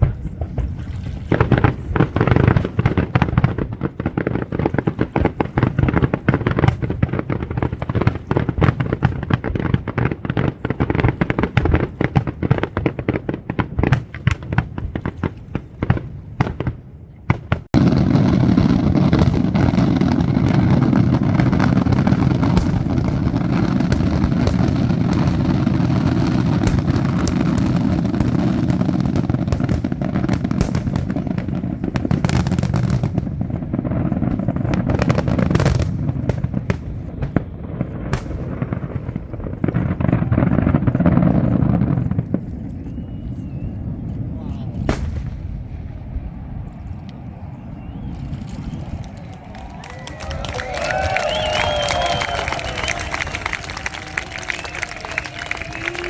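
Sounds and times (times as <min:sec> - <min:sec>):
fireworks bursts and bangs: 0:00.0 - 0:46.7, 0:47.3 - 0:56.0
fireworks crackling: 0:00.0 - 0:56.0.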